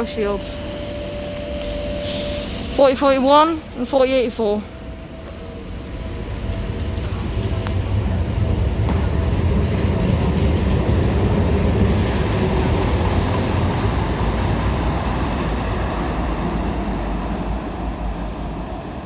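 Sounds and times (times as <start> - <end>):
train motors humming: 0.0 - 19.0
wheels on rail: 0.0 - 19.0.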